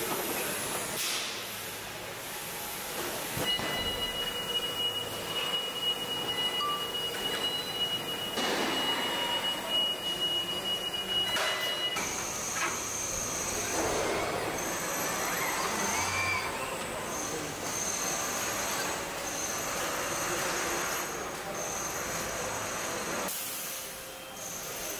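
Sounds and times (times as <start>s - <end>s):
factory machinery din: 3.3s - 23.8s.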